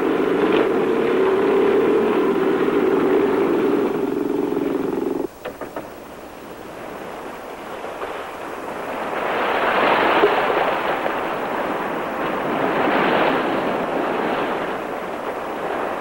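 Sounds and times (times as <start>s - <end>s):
surf breaking on rocks: 0.0s - 16.0s.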